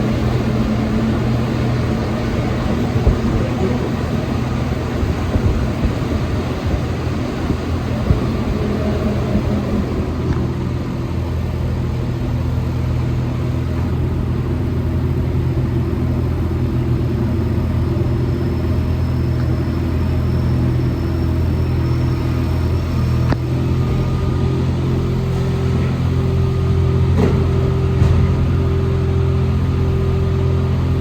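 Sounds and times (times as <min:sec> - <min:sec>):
metro car rumble and drone: 0:00.0 - 0:31.0.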